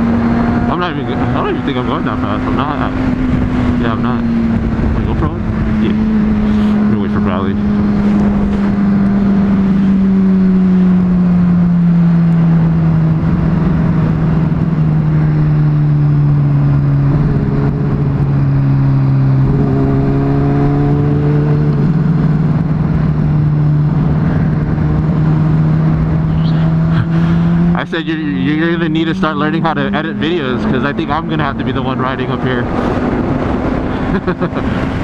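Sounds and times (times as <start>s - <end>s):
wind noise: 0.0s - 27.7s, 29.7s - 35.0s
motorcycle engine running: 0.0s - 35.0s.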